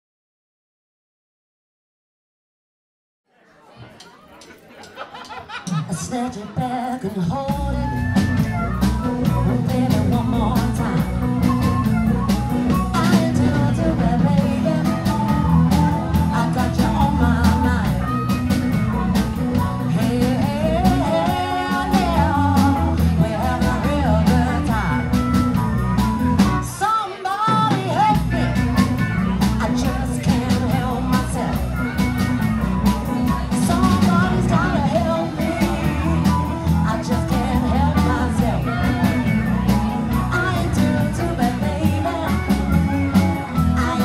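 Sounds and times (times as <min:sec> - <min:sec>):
blues band playing: 0:04.7 - 0:44.0
bending lead guitar line: 0:05.4 - 0:44.0.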